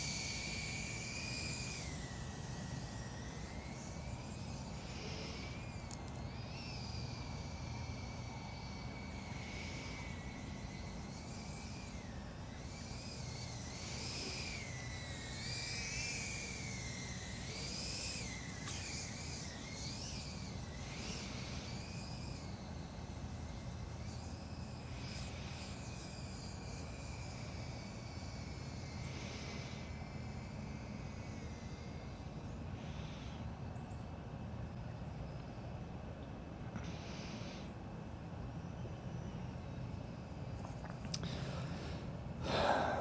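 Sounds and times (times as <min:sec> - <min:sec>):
quadcopter propellers whining: 0:00.0 - 0:43.0.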